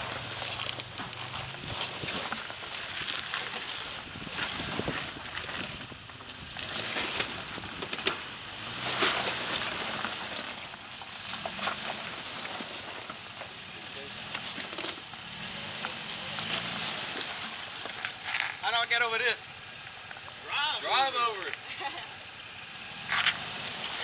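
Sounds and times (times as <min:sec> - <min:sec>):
tires crunching over gravel: 0:00.0 - 0:24.0.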